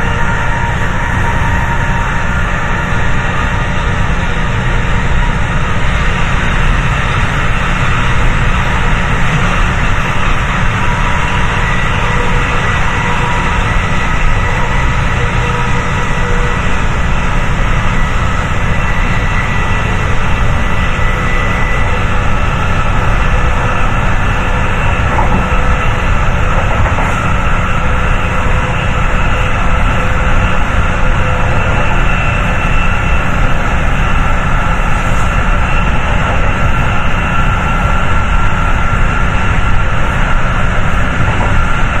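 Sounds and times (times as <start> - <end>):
diesel locomotive engine rumbling: 0.0 - 42.0
faint high whining tones: 0.0 - 42.0.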